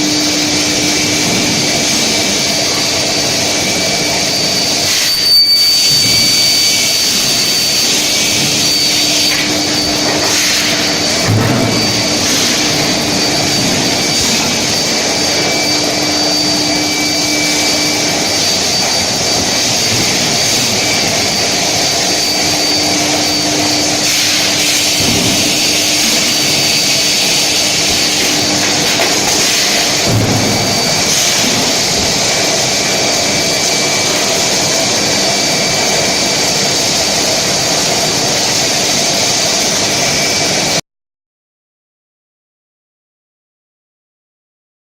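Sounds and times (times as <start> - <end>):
low machine hum: 0.0 - 39.4
machine rush with high whine: 0.0 - 40.8.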